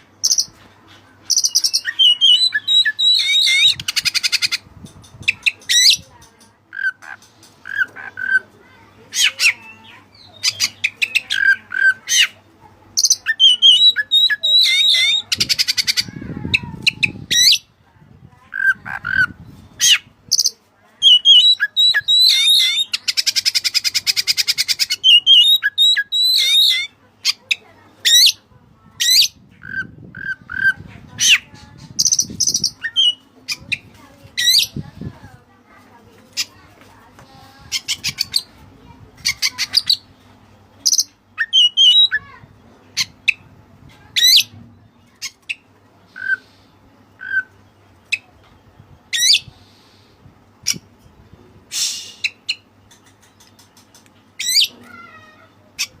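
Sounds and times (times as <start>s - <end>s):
songbird singing: 0.0s - 35.3s, 36.3s - 51.0s, 51.7s - 56.0s.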